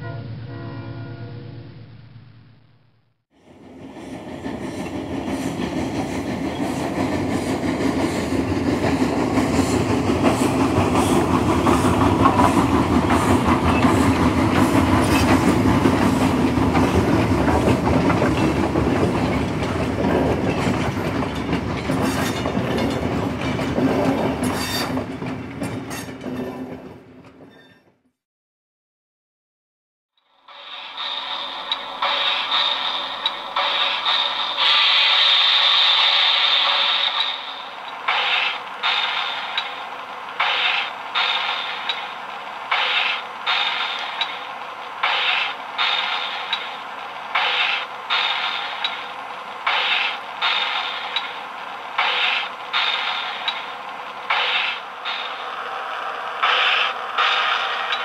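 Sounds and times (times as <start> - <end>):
train clickety-clack on rails: 3.4 - 28.0, 30.5 - 58.0.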